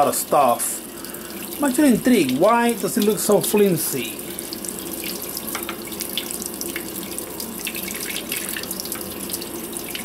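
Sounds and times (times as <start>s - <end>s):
coolant flowing and splashing: 0.0s - 10.0s.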